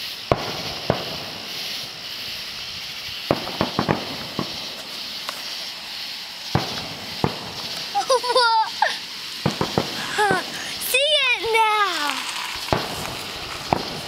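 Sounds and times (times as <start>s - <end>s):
fireworks bangs and pops: 0.0s - 14.0s
steady hiss: 0.0s - 14.0s.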